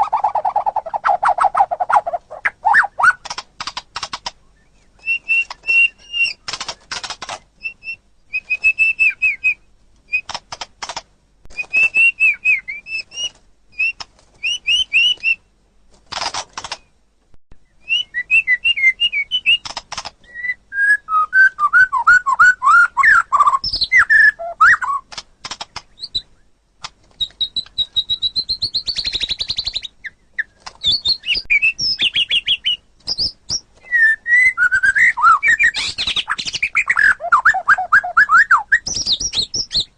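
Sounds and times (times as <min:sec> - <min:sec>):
bird singing varied phrases: 0:00.0 - 0:03.3, 0:04.4 - 0:06.9, 0:07.6 - 0:10.4, 0:11.5 - 0:15.5, 0:17.6 - 0:26.6, 0:27.2 - 0:39.9.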